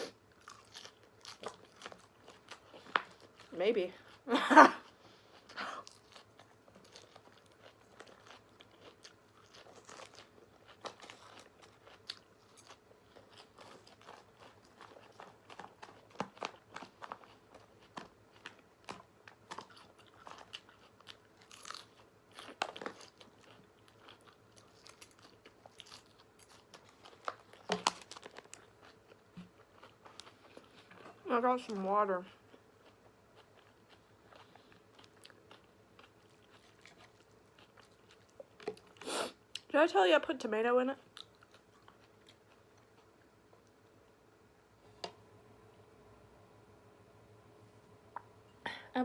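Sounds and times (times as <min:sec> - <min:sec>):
person crunching and chewing: 0:00.0 - 0:39.7, 0:41.0 - 0:43.8.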